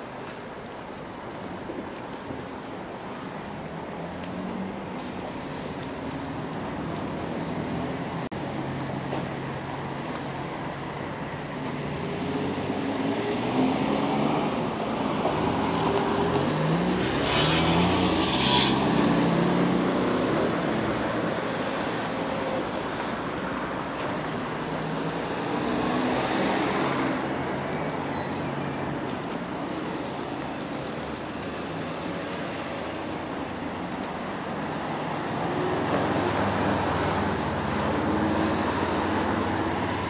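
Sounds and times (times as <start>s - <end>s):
cars passing: 0.0s - 40.0s.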